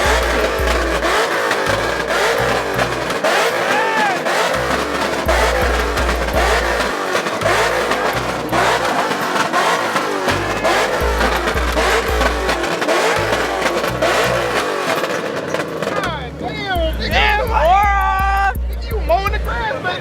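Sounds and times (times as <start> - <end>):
music with deep bass line: 0.0 - 15.4, 16.1 - 19.7
car engines revving: 0.0 - 20.0.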